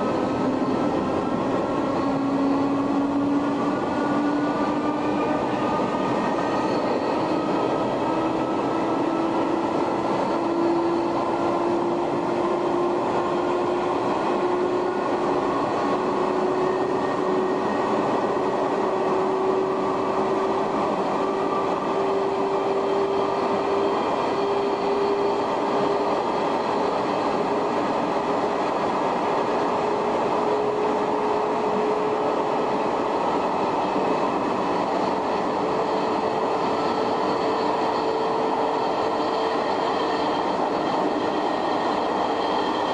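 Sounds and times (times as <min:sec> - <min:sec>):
wheels rumbling on rail: 0:00.0 - 0:42.9.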